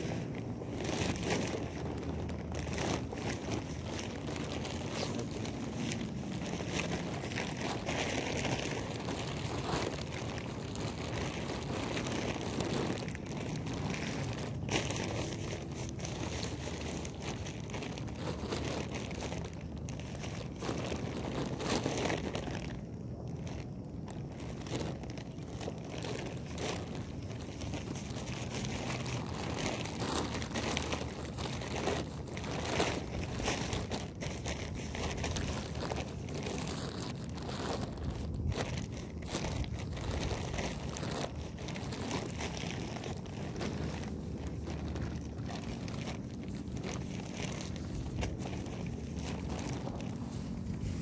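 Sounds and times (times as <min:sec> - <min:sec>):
plastic bag crinkling: 0:00.0 - 0:51.0.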